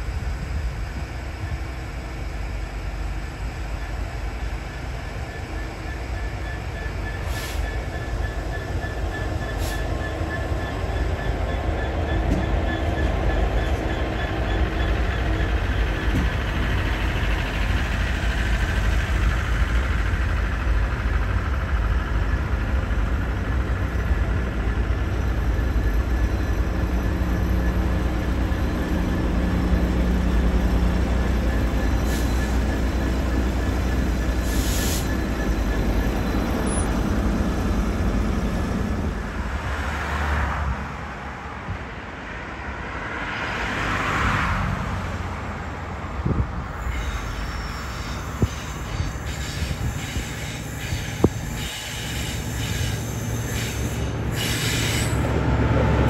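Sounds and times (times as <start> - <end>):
diesel locomotive engine drone: 0.0 - 56.0
train wheel and rail noise: 0.0 - 56.0.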